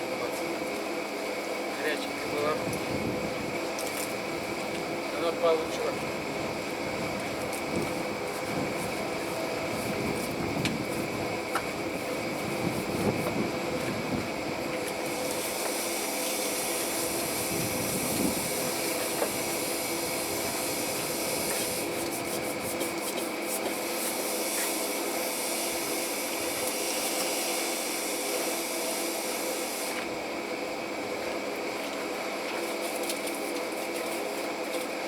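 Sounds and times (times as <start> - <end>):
machinery running with hiss and tones: 0.0 - 35.0.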